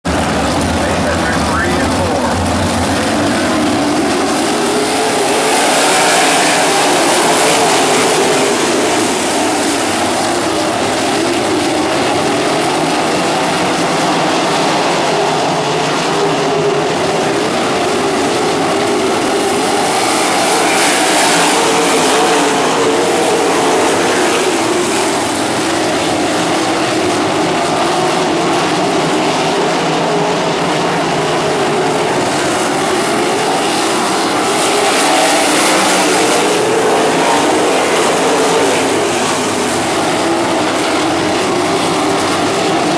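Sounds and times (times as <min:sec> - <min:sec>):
racing car engines droning: 0:00.0 - 0:42.9.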